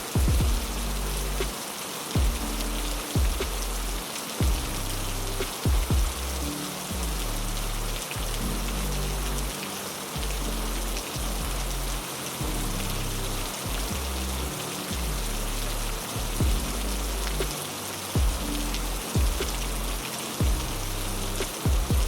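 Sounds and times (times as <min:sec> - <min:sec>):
heavy rain falling: 0:00.0 - 0:22.0
soft low music notes: 0:00.0 - 0:22.0.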